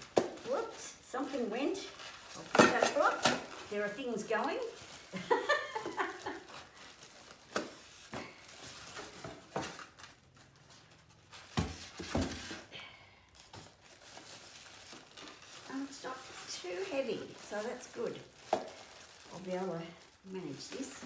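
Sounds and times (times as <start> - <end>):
polystyrene packing pulled off: 0.0 - 10.2, 13.3 - 21.0
plastic crinkling: 0.0 - 21.0.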